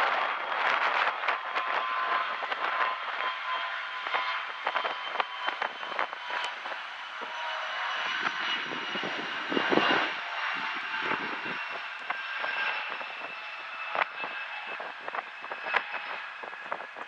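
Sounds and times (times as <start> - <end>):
jet engines hissing and whining: 0.0 - 17.0
wind buffeting microphone: 0.0 - 17.0.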